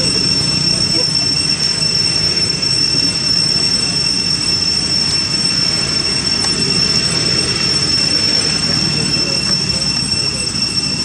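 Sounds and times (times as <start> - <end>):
cicadas chorus: 0.0 - 11.0
low noisy rumble: 0.0 - 11.0.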